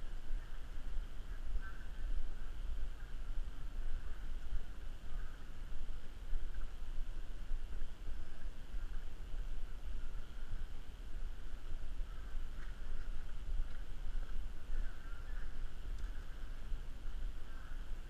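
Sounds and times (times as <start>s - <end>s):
faint steady hiss: 0.0s - 18.0s
wind rumbling on microphone: 0.0s - 18.0s.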